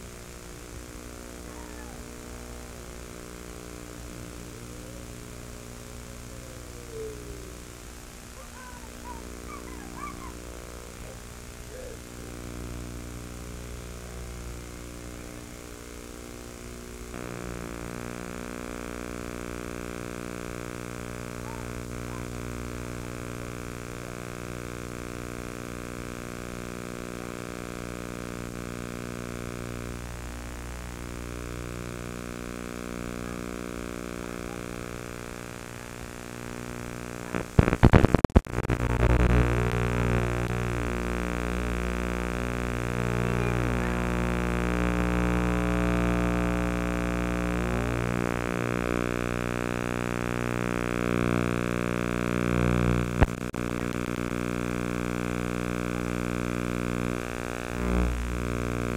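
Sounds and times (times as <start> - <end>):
droning hum with overtones: 0.0 - 58.9.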